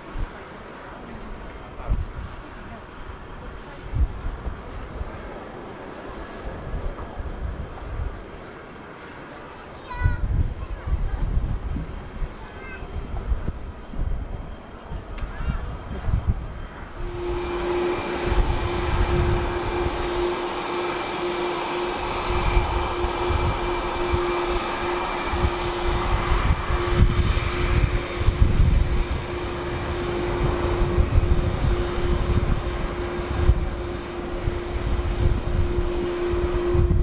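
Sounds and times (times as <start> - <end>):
high jet whine: 0.0 - 37.0
jet engines hum: 0.0 - 37.0.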